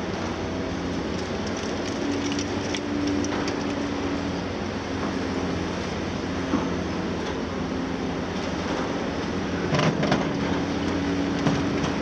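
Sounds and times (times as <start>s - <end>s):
diesel excavators running: 0.0s - 12.0s.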